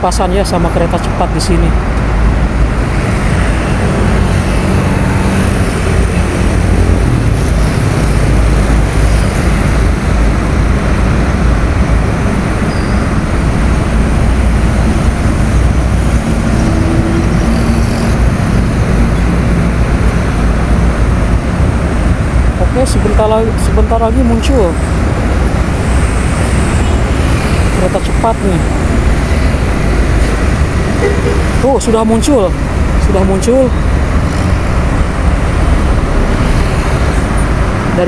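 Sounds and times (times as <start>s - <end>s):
road traffic rumble: 0.0s - 38.0s
vehicle engine hum: 0.0s - 38.0s.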